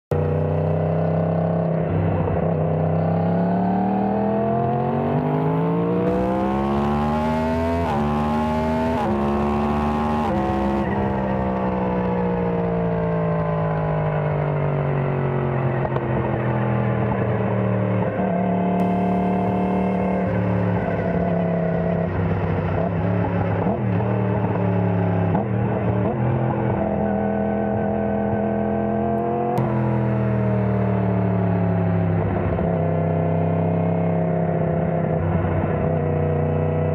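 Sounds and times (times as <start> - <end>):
motorcycle engine revving: 0.2 - 36.9.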